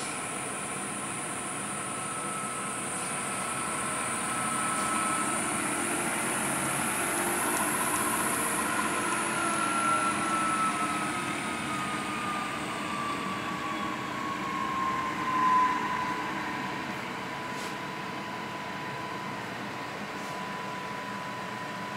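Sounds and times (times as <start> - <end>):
milling machine spindle whine: 0.0 - 21.9.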